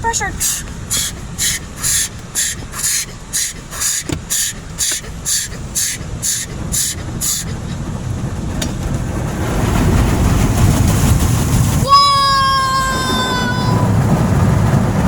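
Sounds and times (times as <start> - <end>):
water jets spraying on car: 0.0 - 15.0.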